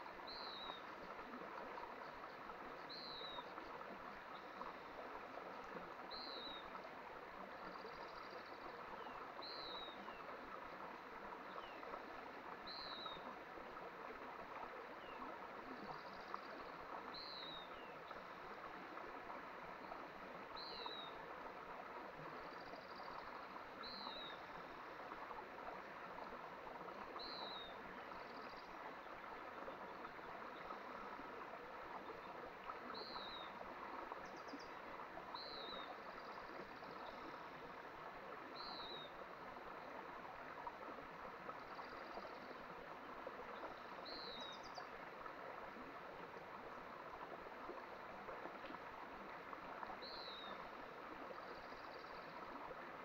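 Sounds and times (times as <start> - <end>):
mountain stream flowing: 0.0 - 53.0.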